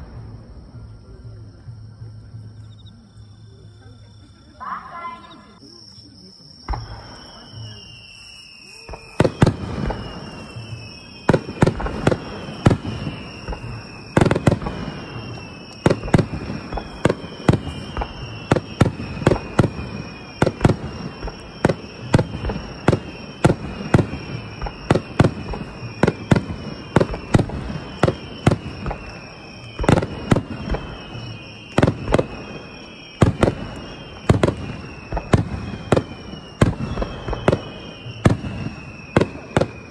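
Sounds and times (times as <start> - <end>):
fireworks booming: 0.0 - 2.1, 6.4 - 39.9
falling whistles of fireworks: 0.0 - 39.9.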